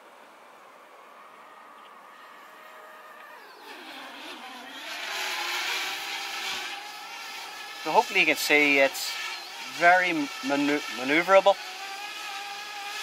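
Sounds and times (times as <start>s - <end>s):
drone propellers whining: 0.2s - 13.0s.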